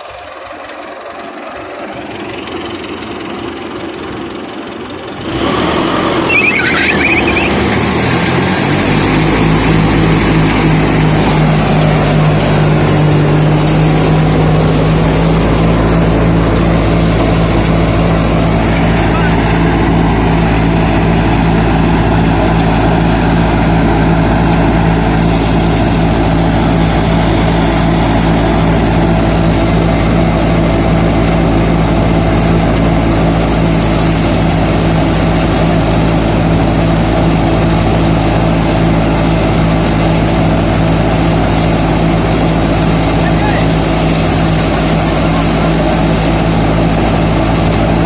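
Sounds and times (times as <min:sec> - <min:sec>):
harvester engine running: 0:00.0 - 0:48.0.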